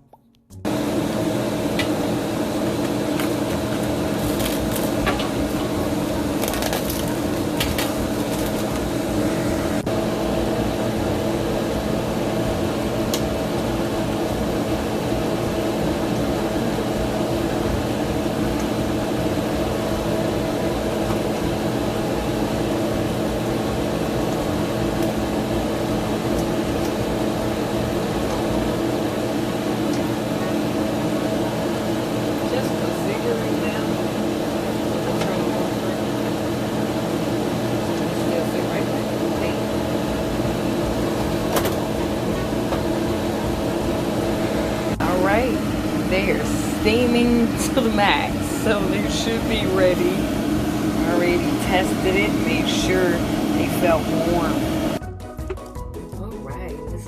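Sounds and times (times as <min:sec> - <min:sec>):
appliance humming with hiss: 0:00.6 - 0:56.1.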